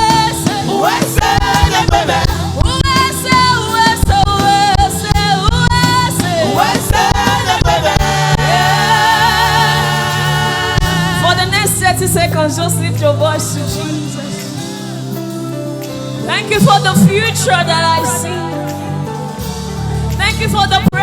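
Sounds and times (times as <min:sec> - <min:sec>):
bass: 0:00.0 - 0:21.0
drums: 0:00.0 - 0:21.0
keyboard: 0:00.0 - 0:21.0
singers: 0:00.0 - 0:21.0.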